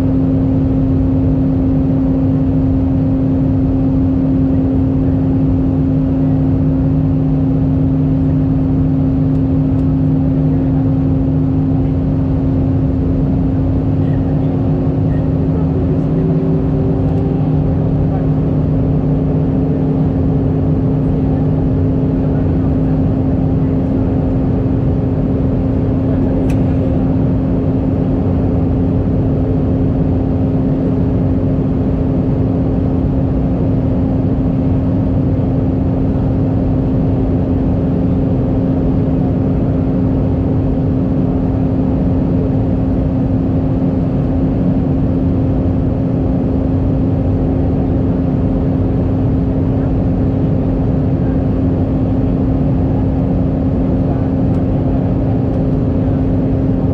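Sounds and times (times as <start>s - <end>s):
airplane engine hum: 0.0s - 56.9s.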